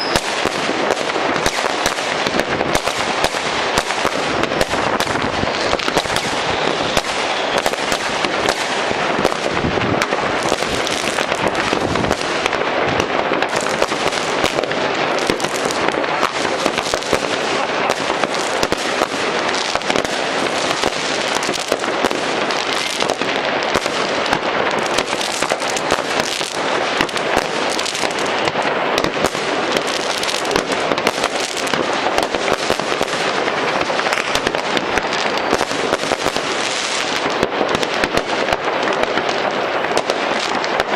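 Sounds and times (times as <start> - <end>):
fireworks and firecrackers banging: 0.0 - 40.9.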